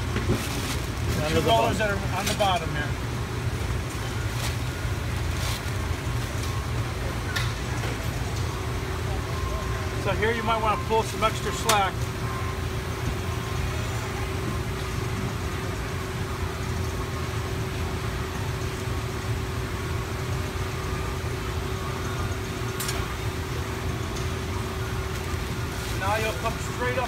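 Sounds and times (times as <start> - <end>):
machinery drone: 0.0 - 27.0.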